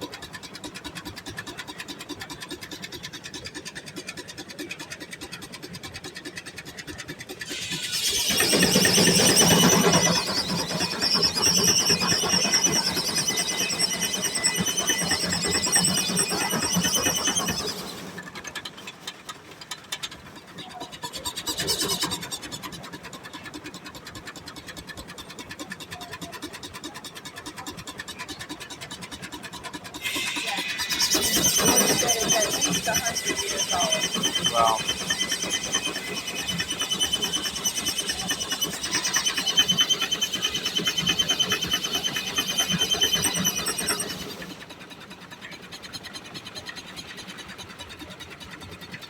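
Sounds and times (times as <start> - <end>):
sawmill machinery clicking: 0.0 - 49.0.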